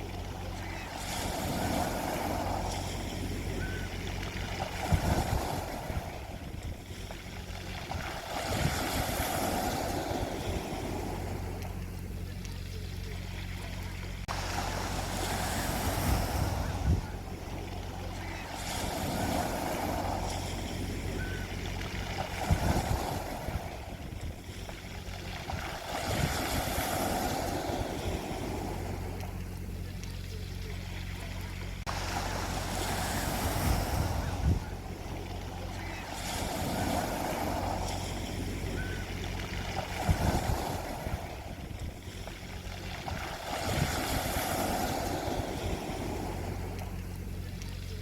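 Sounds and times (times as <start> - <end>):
sea waves washing on beach: 0.0 - 48.0
steady low hum: 0.0 - 48.0.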